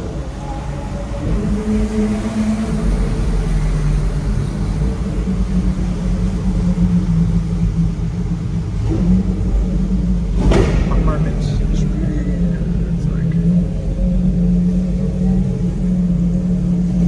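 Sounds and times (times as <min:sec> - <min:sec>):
car engine low steady drone: 0:00.0 - 0:17.0.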